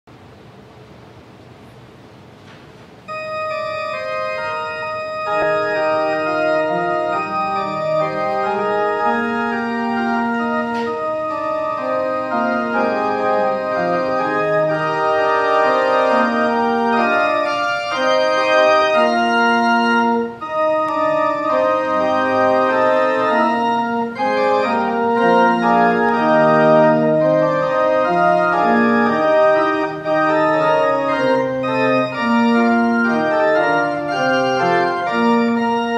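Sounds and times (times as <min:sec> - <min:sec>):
church organ playing chords: 0:03.0 - 0:35.9.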